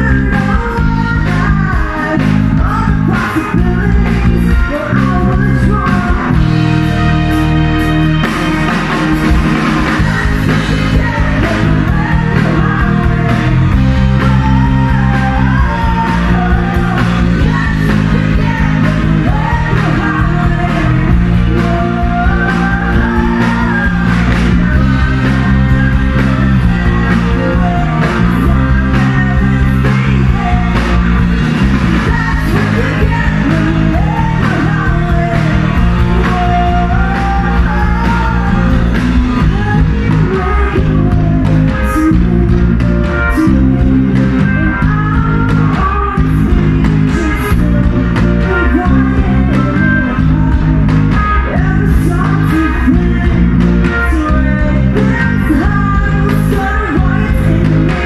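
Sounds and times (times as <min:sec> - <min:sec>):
rock band playing: 0:00.0 - 0:58.0
woman singing lead vocal: 0:00.0 - 0:58.0.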